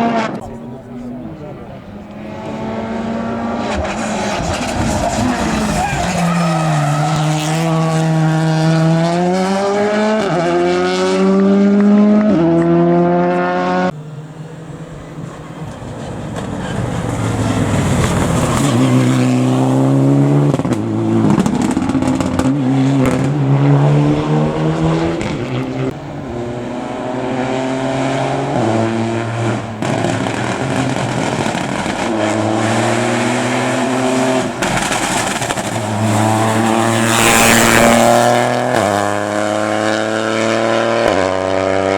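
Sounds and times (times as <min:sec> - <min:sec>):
car accelerating hard: 0:00.0 - 0:41.9
rally car engine revving: 0:00.0 - 0:41.9
tyre noise: 0:00.3 - 0:11.0, 0:11.6 - 0:41.4.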